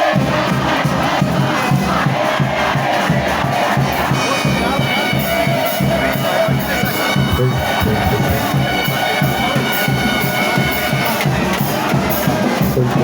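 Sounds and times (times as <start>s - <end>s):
brass horns: 0.0s - 13.0s
crowd noise: 0.0s - 13.0s
drumbeat with cymbal strikes: 0.0s - 13.0s.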